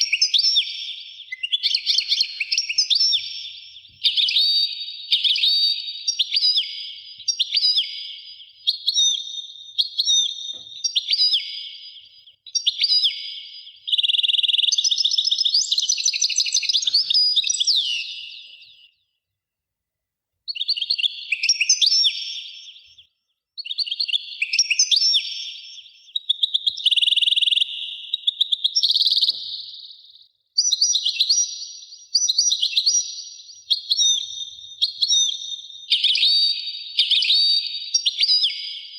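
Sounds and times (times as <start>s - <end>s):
small birds chirping: 0.0s - 19.2s, 20.5s - 38.9s.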